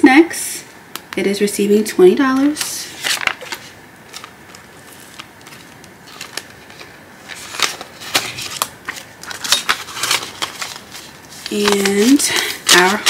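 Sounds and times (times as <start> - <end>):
paper bills being handled: 2.4 - 13.0
plastic envelope rustling and clicking: 2.4 - 13.0.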